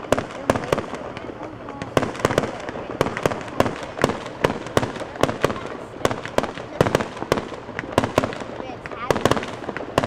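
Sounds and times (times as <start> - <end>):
firework rumble and crackle: 0.0 - 10.0
firework shells bursting: 0.0 - 10.0.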